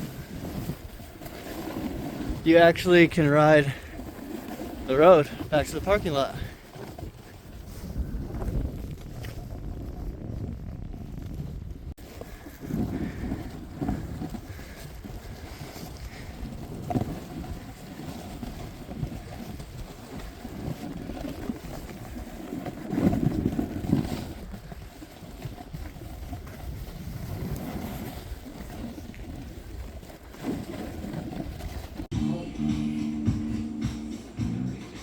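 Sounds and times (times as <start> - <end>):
wind buffeting microphone: 0.0 - 30.1.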